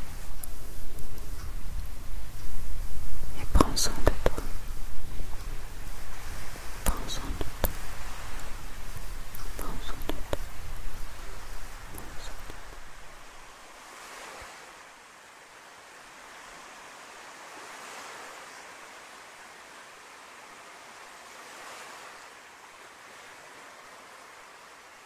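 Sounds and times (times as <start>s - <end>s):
waves breaking on a beach: 0.0s - 25.0s.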